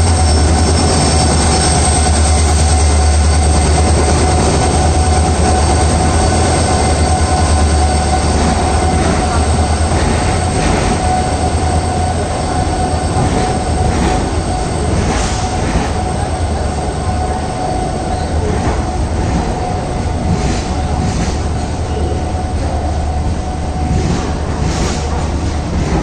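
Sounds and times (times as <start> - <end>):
passenger train rolling past: 0.0 - 26.0.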